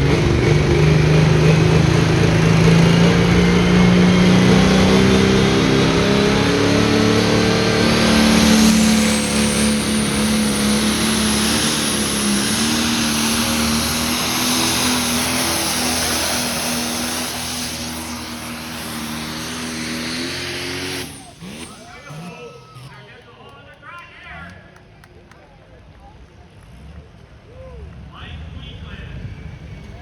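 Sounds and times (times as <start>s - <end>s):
tractor diesel engine under load: 0.0s - 24.7s, 28.0s - 30.0s.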